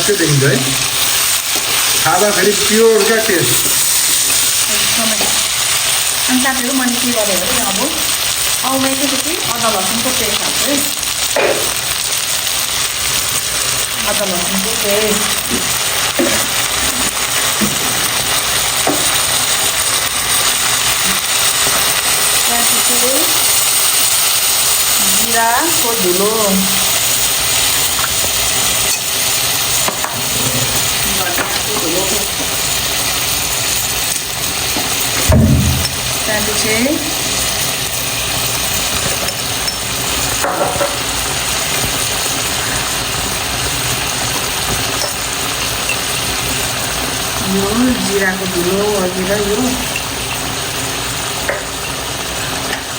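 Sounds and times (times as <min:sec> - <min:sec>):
meat sizzling in fat: 0:00.0 - 0:52.9.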